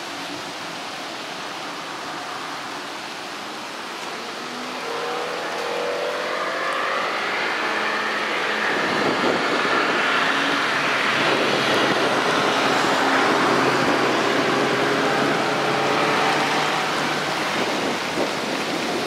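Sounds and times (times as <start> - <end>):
rain hiss: 0.0 - 19.0
tyres hissing on wet road: 0.0 - 19.0
car engine passing: 3.3 - 19.0.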